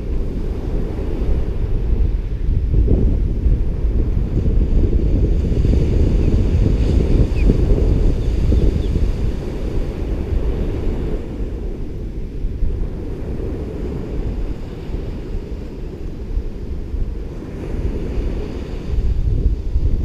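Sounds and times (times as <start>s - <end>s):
ocean surf: 0.0s - 20.0s
wind rumbling on microphone: 0.0s - 20.0s.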